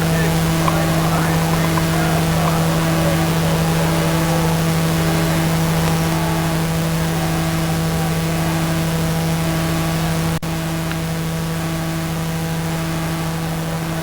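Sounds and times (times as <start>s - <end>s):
constant hiss: 0.0s - 14.0s
steady low hum: 0.0s - 14.0s.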